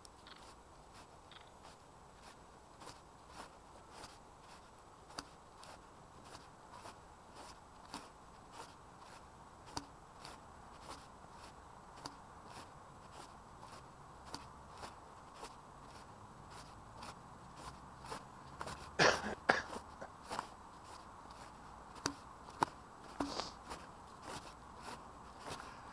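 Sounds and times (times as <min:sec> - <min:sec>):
footsteps crunching: 0:00.0 - 0:25.9
low steady hiss: 0:00.0 - 0:25.9.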